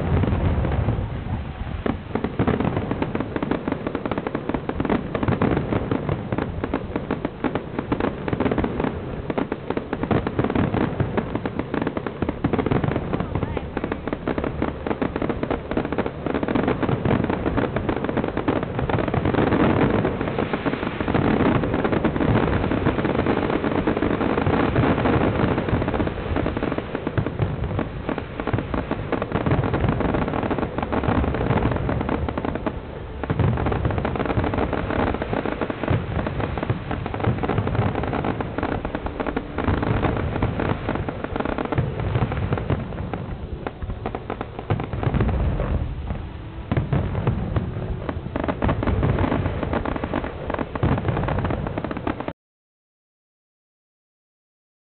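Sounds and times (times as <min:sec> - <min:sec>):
fireworks bursting and crackling: 0:00.0 - 0:52.4.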